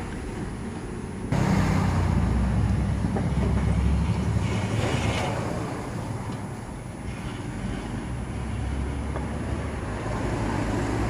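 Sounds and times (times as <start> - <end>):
low vehicle engine rumble: 0.0 - 11.0.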